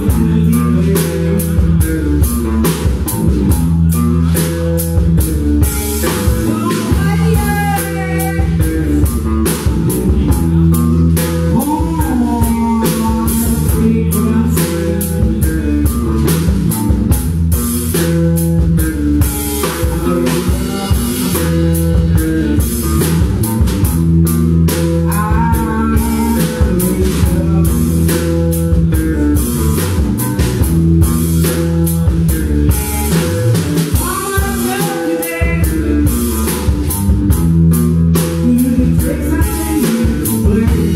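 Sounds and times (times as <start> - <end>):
drum kit beat: 0.0 - 40.9
electric guitar: 0.0 - 40.9.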